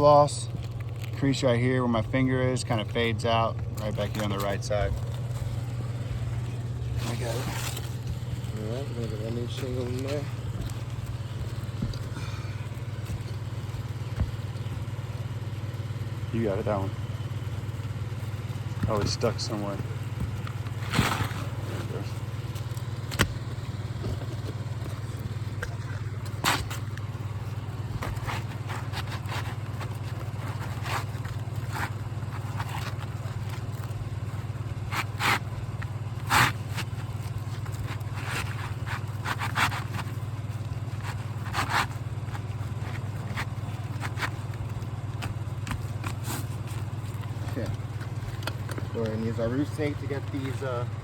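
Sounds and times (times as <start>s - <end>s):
roofing shingle scraping: 0.0s - 51.0s
steady low hum: 0.0s - 51.0s.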